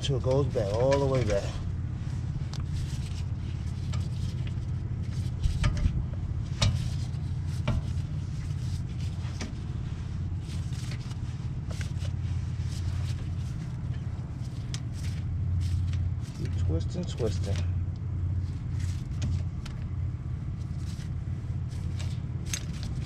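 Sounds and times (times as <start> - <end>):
steady low rumble: 0.0 - 23.0
metallic clicks and scrapes: 2.5 - 17.8, 18.4 - 19.9, 20.6 - 23.0.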